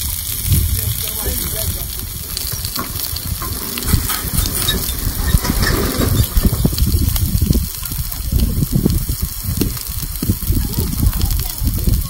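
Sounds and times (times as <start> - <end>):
steak sizzling on hot stone: 0.0 - 12.0
dull low thumps: 0.4 - 12.0.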